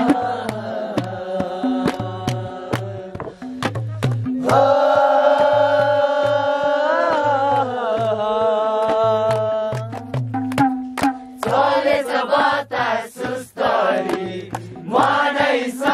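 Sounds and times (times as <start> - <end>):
hand drum beat: 0.0 - 15.9.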